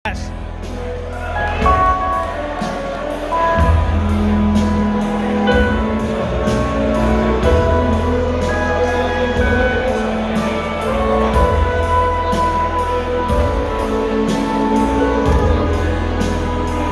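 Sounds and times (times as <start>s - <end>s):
steady drum beat: 0.0s - 16.9s
live rock band playing: 0.1s - 16.9s.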